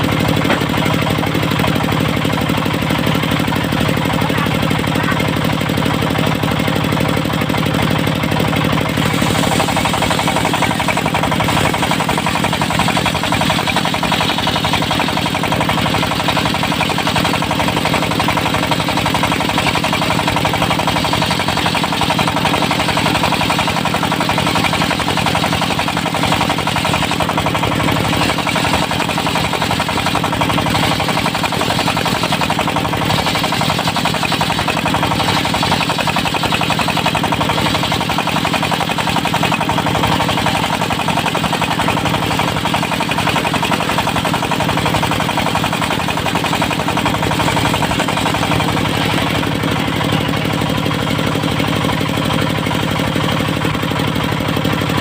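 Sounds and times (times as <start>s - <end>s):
diesel saw mill chugging: 0.0s - 55.0s.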